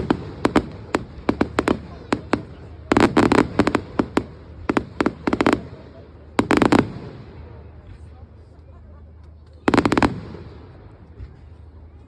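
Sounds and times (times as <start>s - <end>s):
fireworks popping and crackling: 0.0s - 11.8s.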